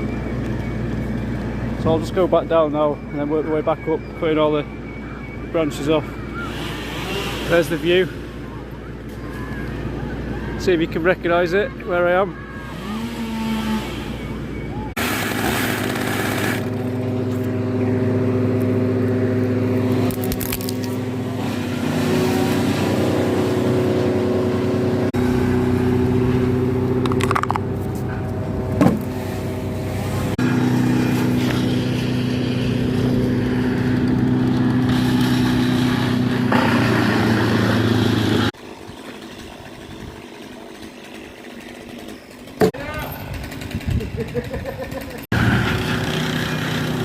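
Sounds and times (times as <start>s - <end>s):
small engine running: 5.8s - 11.3s, 12.3s - 47.0s.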